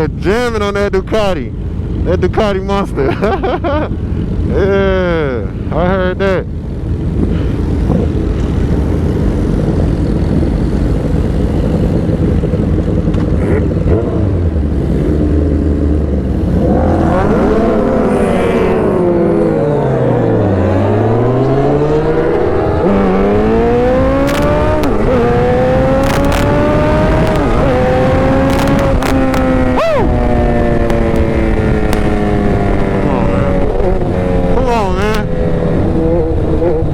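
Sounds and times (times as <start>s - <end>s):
motorcycle engine: 0.0s - 36.9s
gear change: 6.2s - 36.9s
wind rush: 6.5s - 36.9s.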